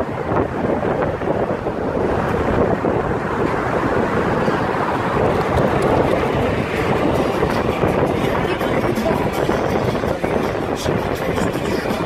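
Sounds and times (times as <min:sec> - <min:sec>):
car road noise: 0:00.0 - 0:12.0
wind buffeting microphone: 0:00.0 - 0:12.0.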